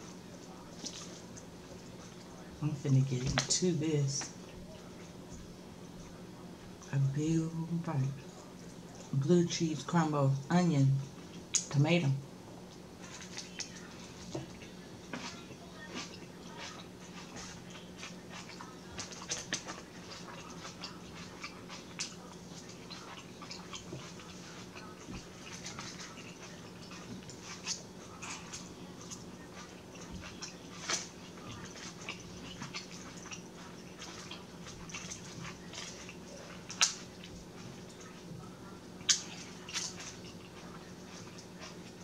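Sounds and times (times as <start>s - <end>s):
person chewing with wet smacks: 0.0s - 42.0s
steady low hum: 0.0s - 42.0s.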